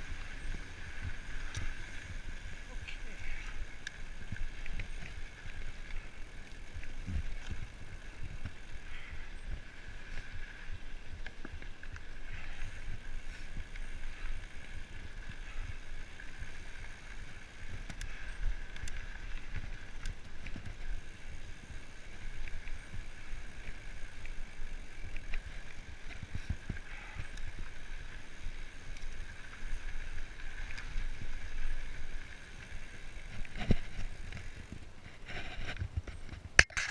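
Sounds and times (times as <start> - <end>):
bike tyres rumbling on dirt: 0.0 - 36.9.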